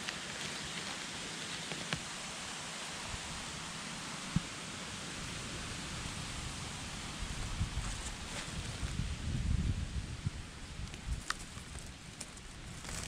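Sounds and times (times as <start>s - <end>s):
forest background hiss: 0.0s - 13.0s.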